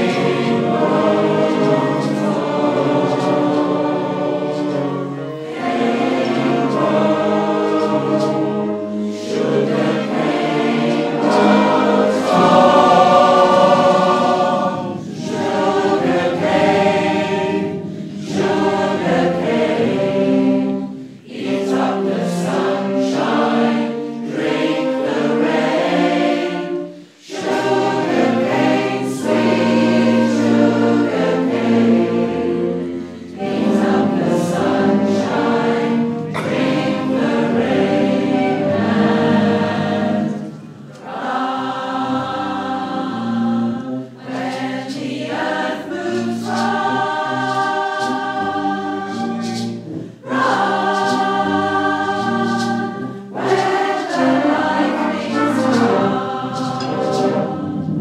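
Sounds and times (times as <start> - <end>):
choir singing sustained chords: 0.0 - 58.0.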